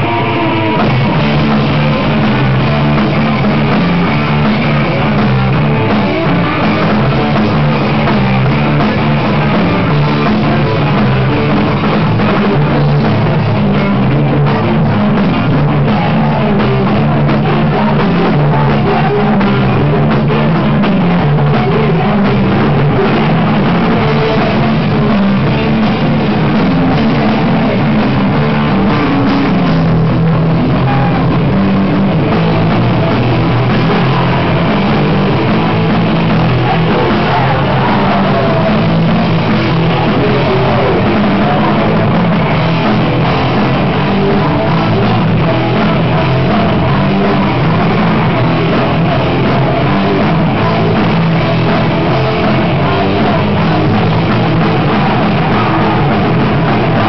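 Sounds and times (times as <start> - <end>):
bass line: 0.0 - 57.0
drum kit: 0.0 - 57.0
electric guitars: 0.0 - 57.0.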